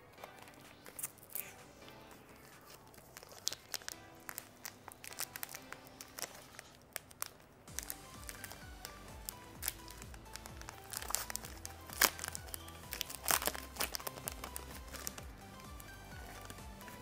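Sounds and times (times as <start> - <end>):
background music: 0.0 - 17.0
plastic wrapper crinkling and tearing: 0.2 - 1.6, 2.4 - 17.0.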